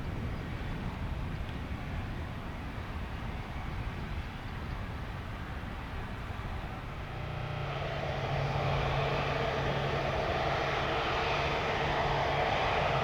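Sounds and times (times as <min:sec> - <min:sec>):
jet airliner engines running: 0:00.0 - 0:13.0.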